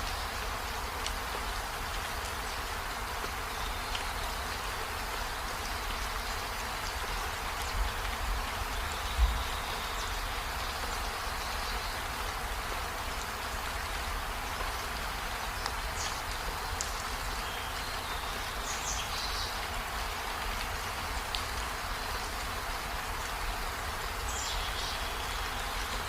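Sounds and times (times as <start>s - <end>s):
rain falling on trees: 0.0s - 26.0s.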